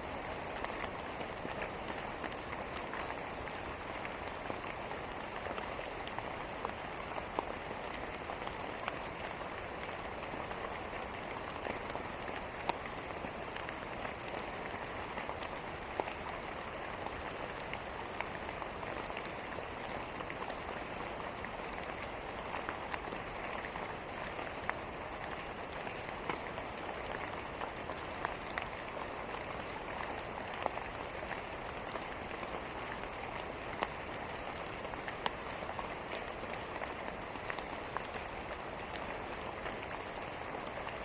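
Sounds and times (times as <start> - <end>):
raindrops pattering: 0.0 - 41.0
steady rain hiss: 0.0 - 41.0.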